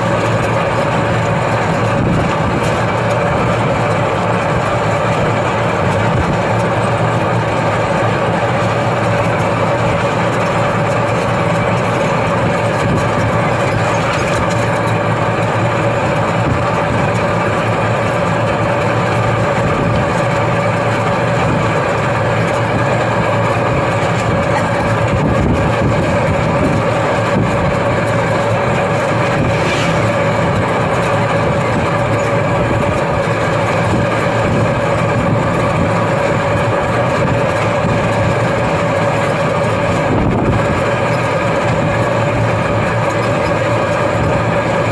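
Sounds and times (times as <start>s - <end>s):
vehicle engine droning: 0.0s - 44.9s.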